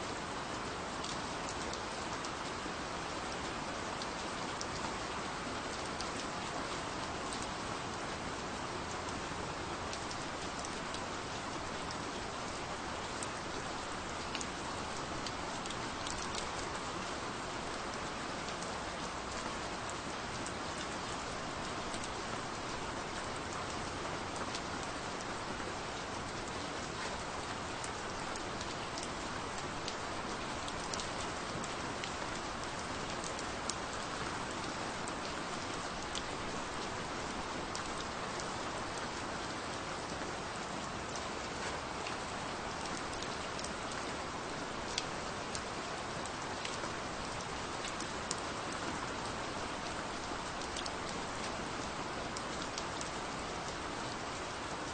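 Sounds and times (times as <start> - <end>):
gentle rain falling: 0.0 - 54.9.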